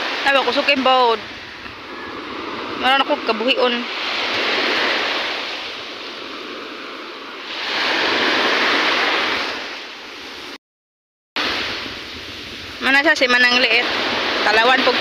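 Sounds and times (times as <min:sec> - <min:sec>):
waves washing up a beach: 0:00.0 - 0:10.6, 0:11.4 - 0:15.0.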